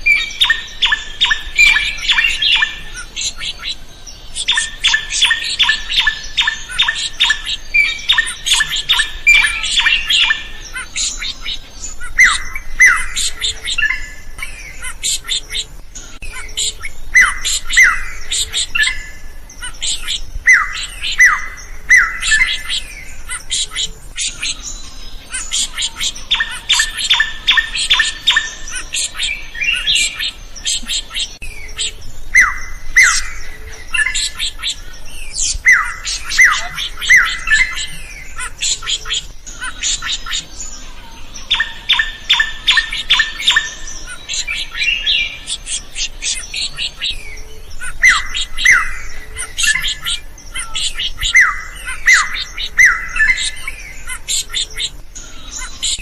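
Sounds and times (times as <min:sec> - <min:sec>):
bird chattering and whistling: 0:00.0 - 0:56.0.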